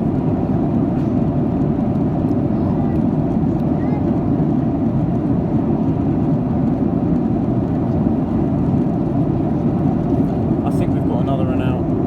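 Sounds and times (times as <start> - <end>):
jet engine hum: 0.0 - 12.0.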